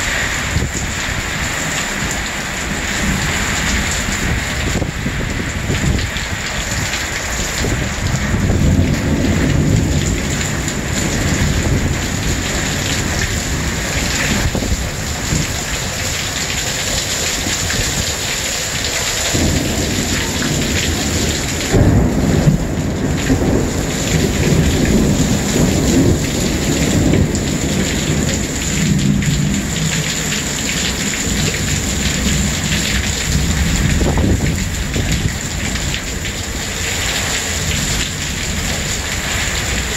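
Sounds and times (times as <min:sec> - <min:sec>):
heavy rain hissing: 0:00.0 - 0:39.9
thunder rumbling: 0:00.0 - 0:39.9.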